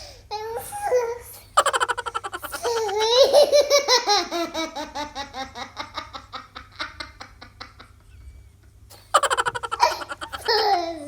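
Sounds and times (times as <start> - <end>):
young child laughing: 0.6 - 8.0, 8.9 - 11.0.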